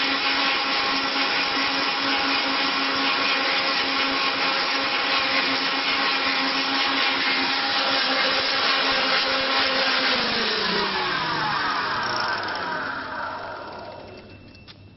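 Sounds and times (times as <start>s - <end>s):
spindle motor whining: 0.0s - 14.9s.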